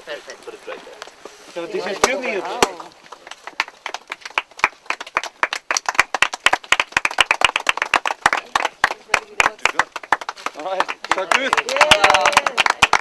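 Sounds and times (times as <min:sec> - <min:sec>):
people clapping: 0:01.8 - 0:13.0.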